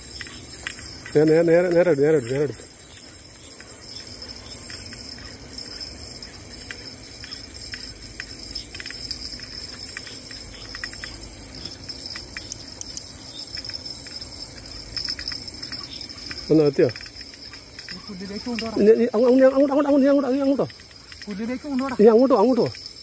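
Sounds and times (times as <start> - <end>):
fishing reel clicks: 0.0 - 23.0
insects chirring: 0.0 - 23.0.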